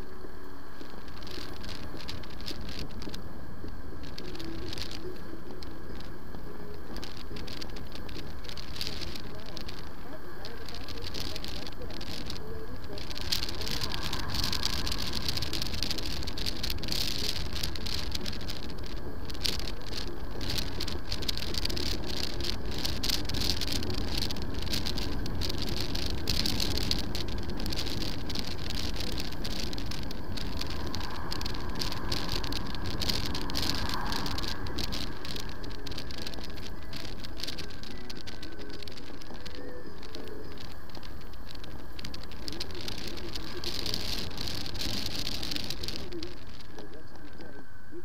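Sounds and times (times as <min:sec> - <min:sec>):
road noise: 0:00.0 - 0:48.0
wind buffeting microphone: 0:00.6 - 0:48.0.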